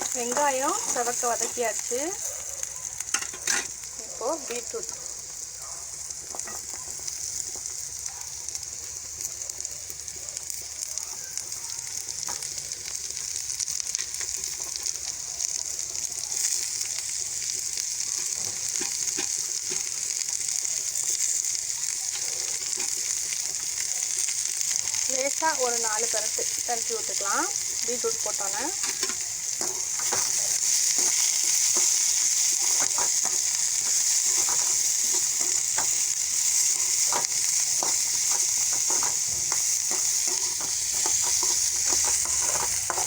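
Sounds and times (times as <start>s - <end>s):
vegetables sizzling in hot oil: 0.0s - 43.0s.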